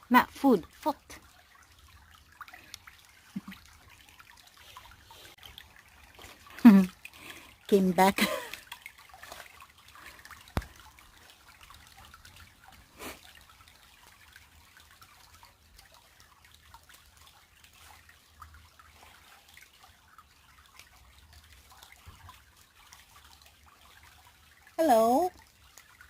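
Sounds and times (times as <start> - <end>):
creek trickling: 0.0 - 26.0.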